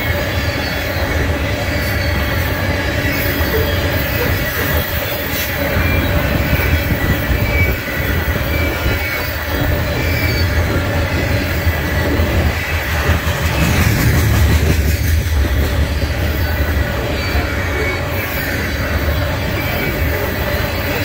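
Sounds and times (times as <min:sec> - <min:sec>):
train wheels rumbling on rail: 0:00.0 - 0:21.0
wheel squeal: 0:00.0 - 0:21.0.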